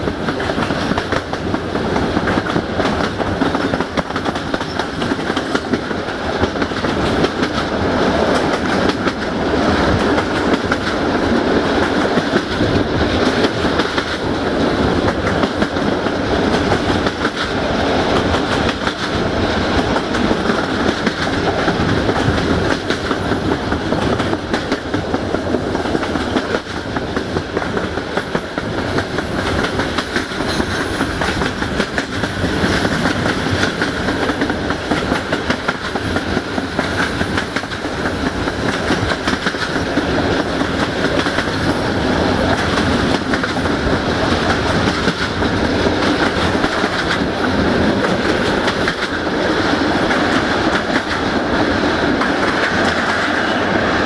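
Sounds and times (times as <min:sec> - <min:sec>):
fast clicking of wheels over track: 0:00.0 - 0:54.0
train wheels rolling on rails: 0:00.0 - 0:54.0.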